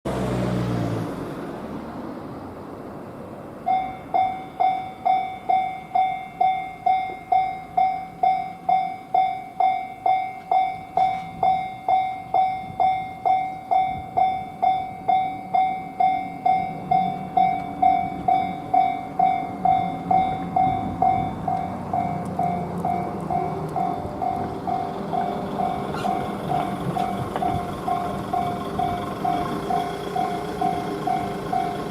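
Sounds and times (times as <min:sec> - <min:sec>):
train rumble: 0:00.1 - 0:31.9
level crossing warning bell: 0:03.6 - 0:31.9.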